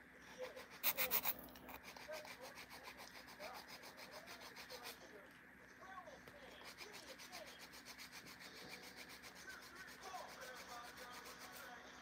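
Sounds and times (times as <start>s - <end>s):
nails being filed: 0.4s - 5.1s, 6.4s - 11.8s.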